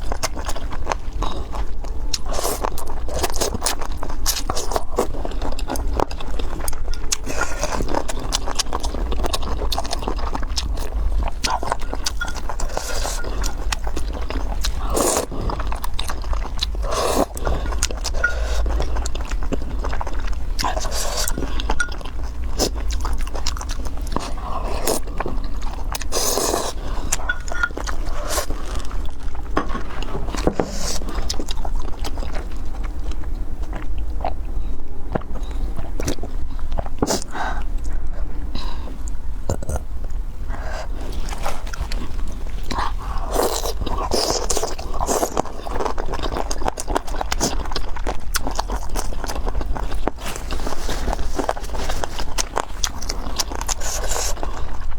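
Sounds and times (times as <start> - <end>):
chewing and biting food: 0.0 - 38.1, 40.8 - 54.9.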